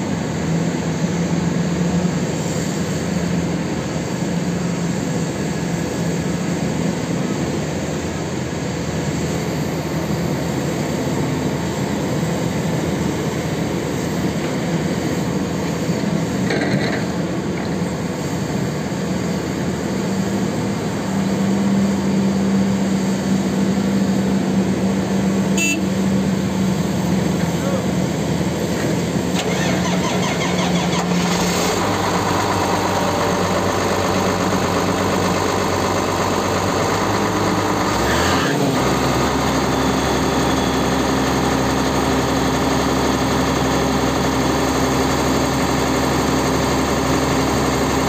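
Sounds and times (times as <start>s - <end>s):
big diesel engines running: 0.0s - 48.0s.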